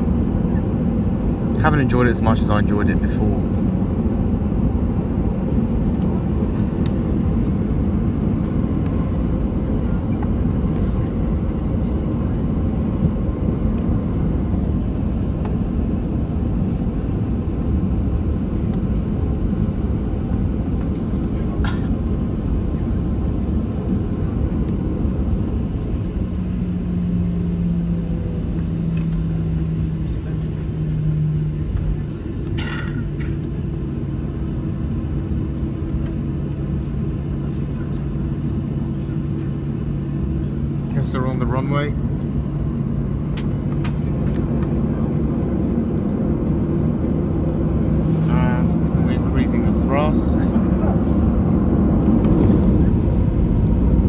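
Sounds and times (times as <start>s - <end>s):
jet engines rumbling: 0.0s - 54.0s
steady hum: 0.0s - 54.0s.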